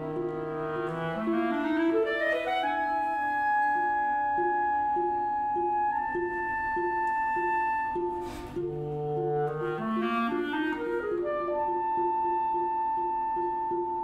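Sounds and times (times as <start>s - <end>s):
chamber ensemble playing: 0.0s - 14.0s
held high woodwind note: 0.0s - 14.0s.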